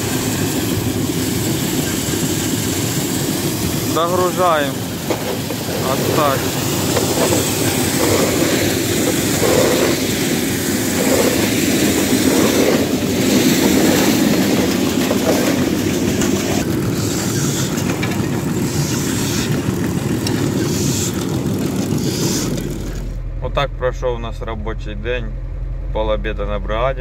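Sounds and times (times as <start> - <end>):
grain loader rattling: 0.0 - 23.2.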